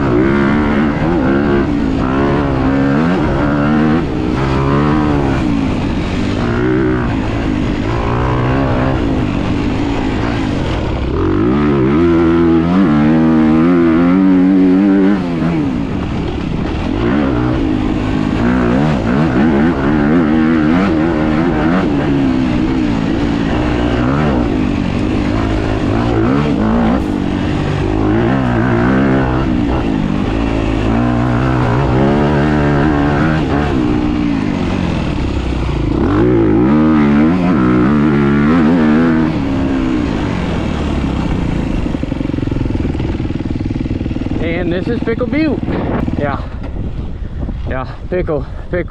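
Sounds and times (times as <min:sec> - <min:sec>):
dirt bike engine revving: 0:00.0 - 0:47.6.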